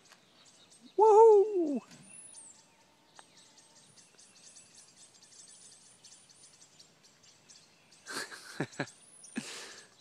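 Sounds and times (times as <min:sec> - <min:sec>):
outdoor background hiss: 0:00.0 - 0:10.0
songbird chirping: 0:00.0 - 0:10.0.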